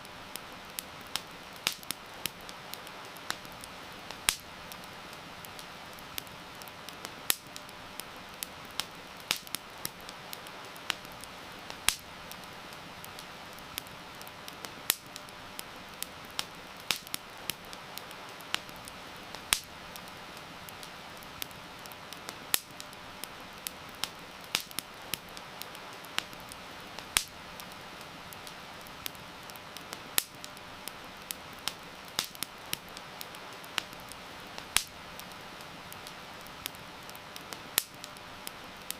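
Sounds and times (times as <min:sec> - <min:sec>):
rain hissing: 0:00.0 - 0:38.9
wood fire crackling and popping: 0:00.0 - 0:38.9.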